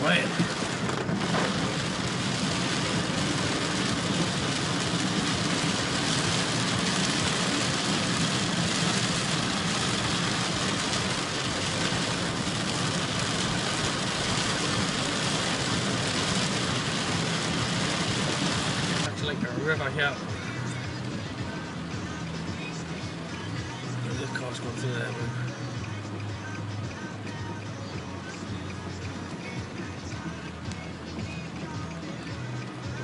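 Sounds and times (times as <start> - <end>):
heavy rain hitting car: 0.0 - 33.0
tyres hissing on wet road: 0.0 - 33.0.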